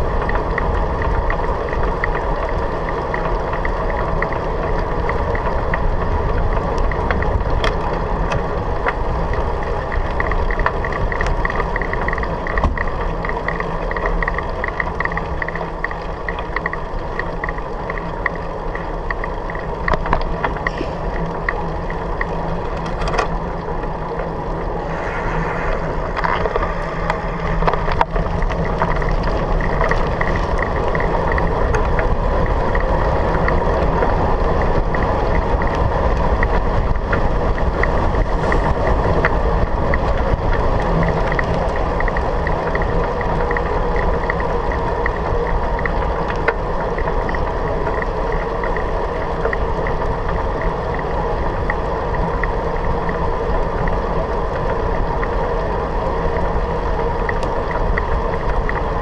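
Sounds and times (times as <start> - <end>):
bicycle tyres rolling: 0.0 - 59.0
wind noise: 0.0 - 59.0.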